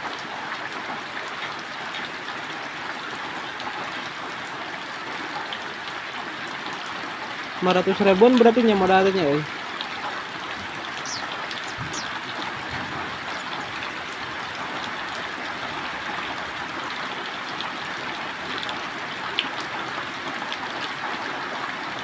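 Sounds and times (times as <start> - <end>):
heavy rain falling: 0.2 - 22.0.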